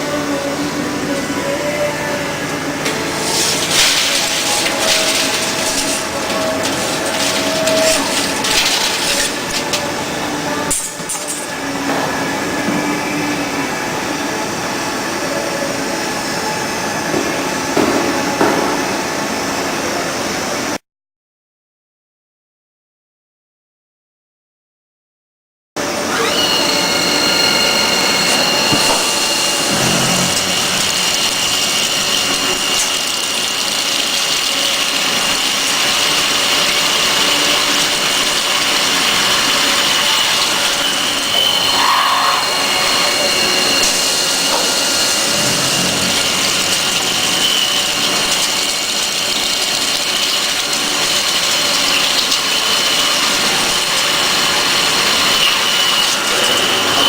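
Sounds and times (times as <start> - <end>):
metal cutting noise: 0.0 - 19.4, 26.0 - 57.0
drilling machine spindle whine: 0.0 - 20.8, 25.8 - 57.0.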